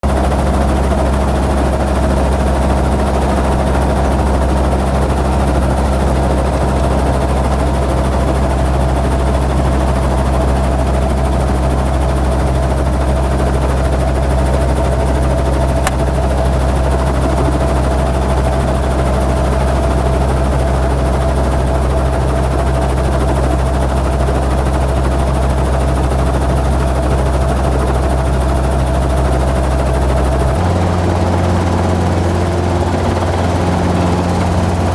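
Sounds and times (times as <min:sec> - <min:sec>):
helicopter engine and rotor drone: 0:00.0 - 0:34.9.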